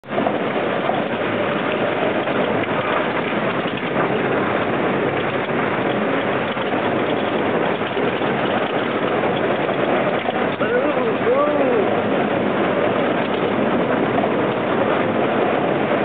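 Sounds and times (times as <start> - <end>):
atv engine: 0.0 - 16.0
steady rushing noise: 0.0 - 16.0.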